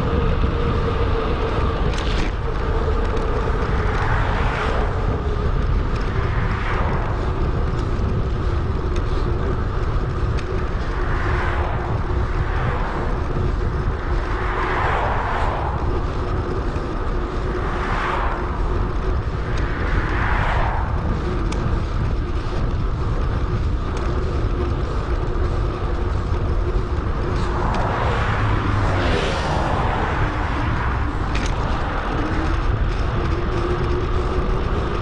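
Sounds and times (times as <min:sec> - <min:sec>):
passing traffic: 0:00.0 - 0:35.0
wind rumbling on microphone: 0:00.0 - 0:35.0.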